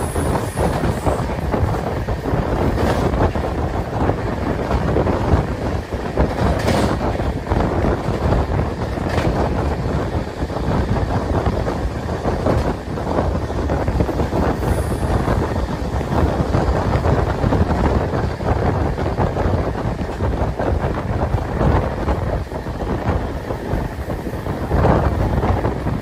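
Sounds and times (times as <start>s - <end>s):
train wheels rumbling on rails: 0.0s - 26.0s
wind buffeting microphone: 0.0s - 26.0s.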